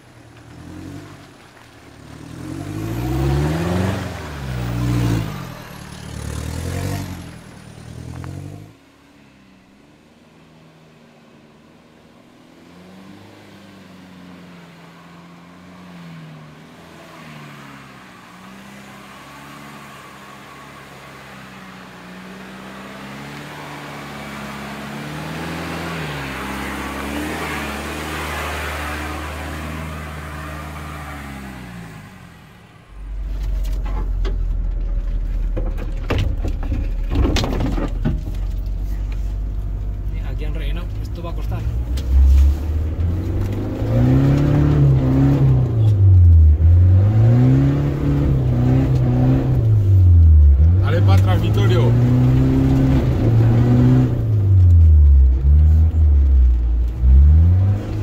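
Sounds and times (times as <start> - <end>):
engine revving: 2.0 - 8.8, 12.6 - 34.4, 39.8 - 58.0.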